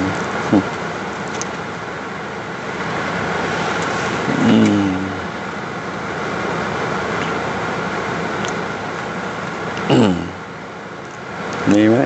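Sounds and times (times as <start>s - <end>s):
car cabin running noise: 0.0s - 12.0s.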